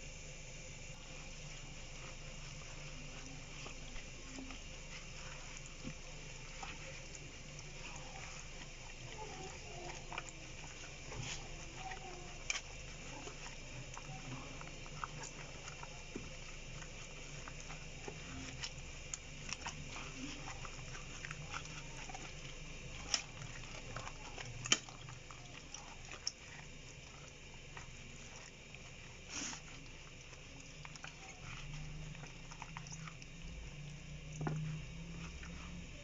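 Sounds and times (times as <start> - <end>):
faint low hum: 0.0 - 36.0
gloved hands squelching raw chicken: 0.9 - 36.0.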